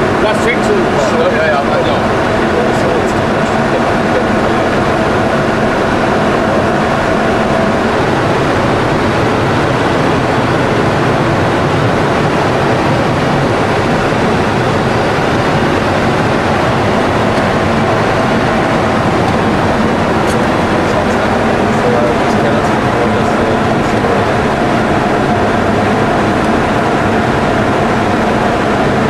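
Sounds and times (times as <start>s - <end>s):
jet cockpit airflow and engine noise: 0.0s - 29.0s.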